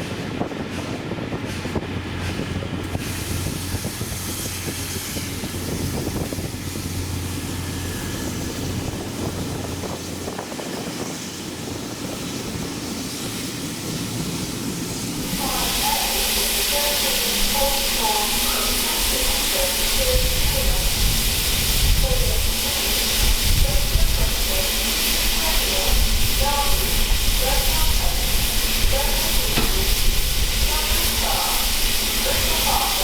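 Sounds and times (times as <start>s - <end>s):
steam train rumble and hiss: 0.0s - 33.0s.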